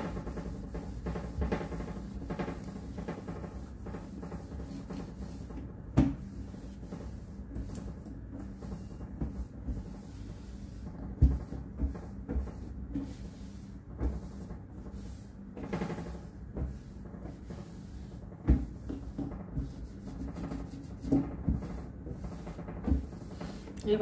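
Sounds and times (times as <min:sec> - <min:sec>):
cloth scrubbing steel sink: 0:00.0 - 0:24.0.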